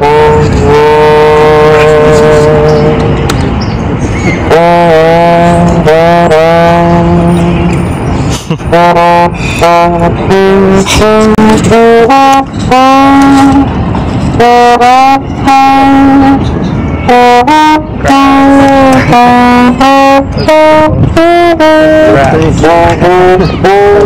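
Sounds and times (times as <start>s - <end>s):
trombone melody: 0.0s - 3.2s, 4.4s - 7.8s, 8.7s - 24.0s.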